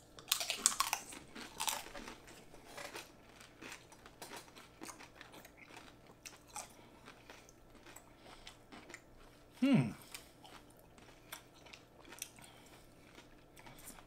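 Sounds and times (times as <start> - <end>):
chewing crunchy chips: 0.0 - 14.0.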